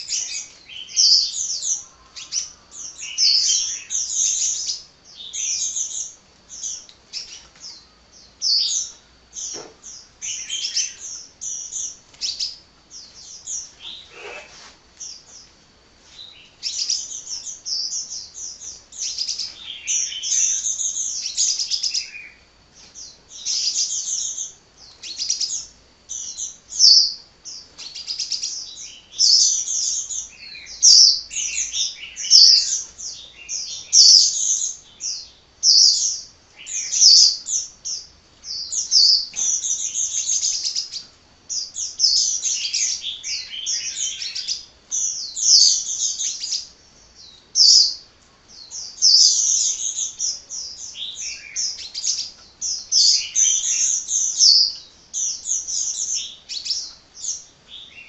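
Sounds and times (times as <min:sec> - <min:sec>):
sunbird twittering: 0:00.0 - 0:58.0.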